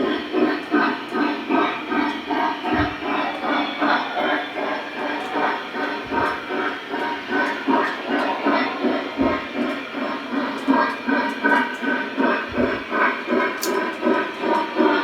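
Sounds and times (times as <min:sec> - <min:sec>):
model steam locomotive chuffing: 0:00.0 - 0:15.0.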